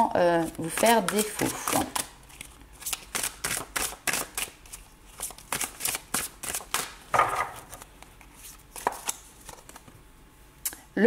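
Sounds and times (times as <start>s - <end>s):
cards being shuffled: 0.4s - 9.9s.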